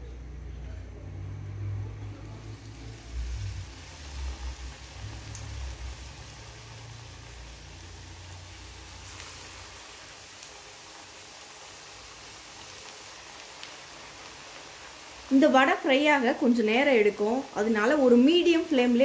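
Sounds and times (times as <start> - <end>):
fritter sizzling in hot oil: 1.4 - 19.0.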